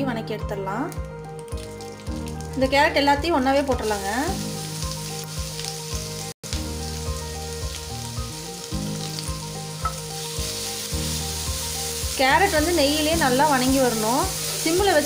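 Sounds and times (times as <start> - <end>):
carrot sizzling in a pan: 1.0 - 15.0.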